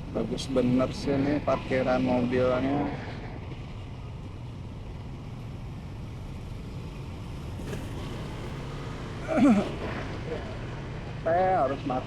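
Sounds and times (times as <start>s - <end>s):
motorcycle engine rumbling: 1.0s - 12.0s.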